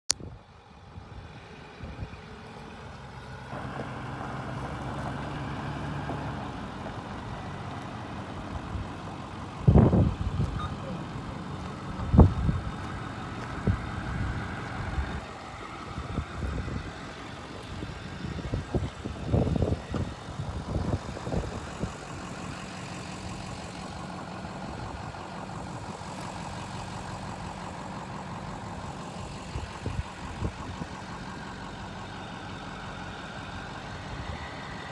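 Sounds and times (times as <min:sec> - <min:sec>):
truck engine running: 0:00.2 - 0:34.9.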